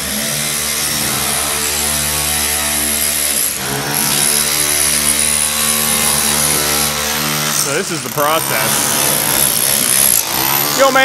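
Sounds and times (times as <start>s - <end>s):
rotary hammer chiselling stone: 0.0s - 11.0s.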